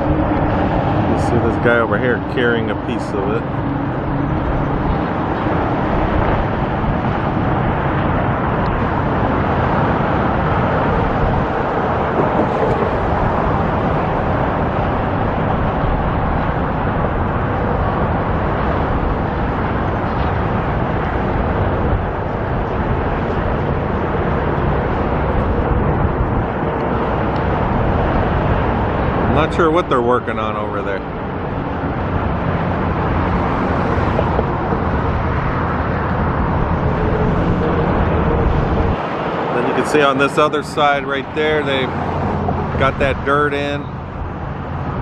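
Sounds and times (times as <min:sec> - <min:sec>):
vehicle noise rushing: 0:00.0 - 0:45.0.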